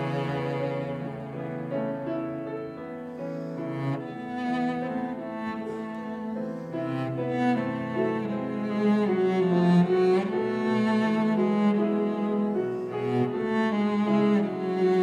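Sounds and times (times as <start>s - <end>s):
cello bowing sustained notes: 0.0s - 15.0s.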